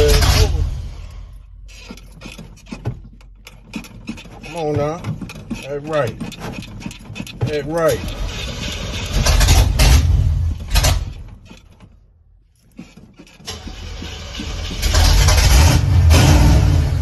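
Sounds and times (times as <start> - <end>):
truck starter motor cranking: 0.0 - 17.0.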